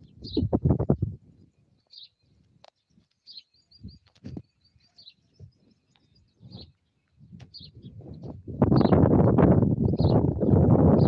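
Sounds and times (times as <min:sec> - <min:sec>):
small bird chirping: 0:00.0 - 0:09.1, 0:09.8 - 0:11.0.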